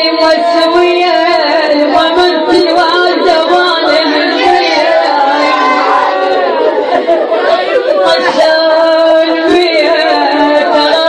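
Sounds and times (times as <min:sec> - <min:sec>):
woman chanting a mourning lament: 0:00.0 - 0:06.8, 0:07.6 - 0:11.0.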